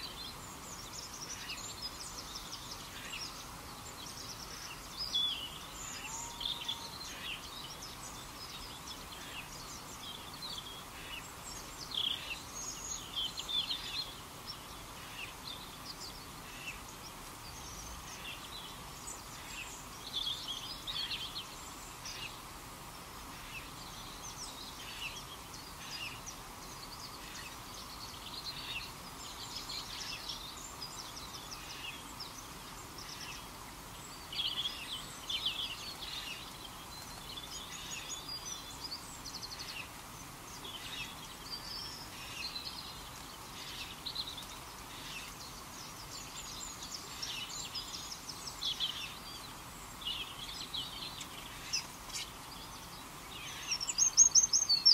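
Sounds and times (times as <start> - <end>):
small birds chirping: 0.0 - 54.9
steady background hiss: 0.0 - 54.9.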